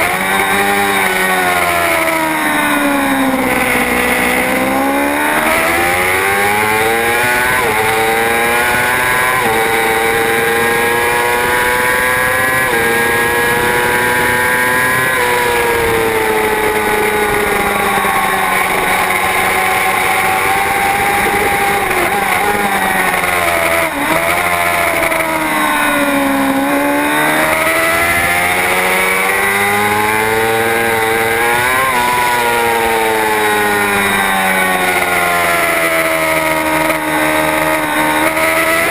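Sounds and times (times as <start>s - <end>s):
racing motorcycle engine: 0.0s - 38.9s.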